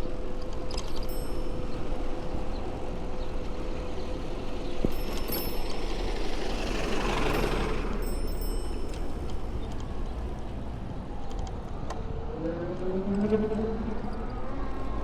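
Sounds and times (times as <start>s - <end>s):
road and wind rumble: 0.0s - 15.0s
passing vehicle: 0.1s - 15.0s.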